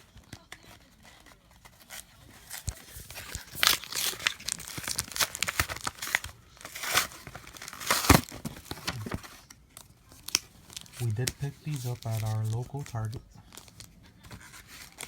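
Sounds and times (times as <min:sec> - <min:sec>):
blister pack tearing and crinkling: 0:00.6 - 0:09.4, 0:10.1 - 0:15.0.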